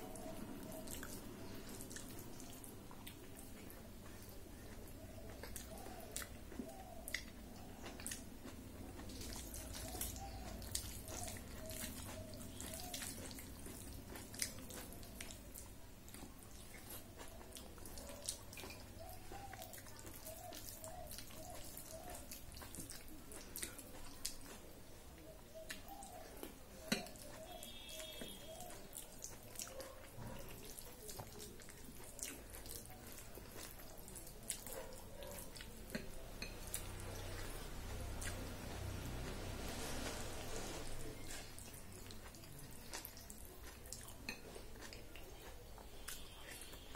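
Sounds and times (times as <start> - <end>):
rice squishing on a steel plate: 0.0 - 24.8, 25.5 - 46.9
wet chewing: 0.0 - 46.9.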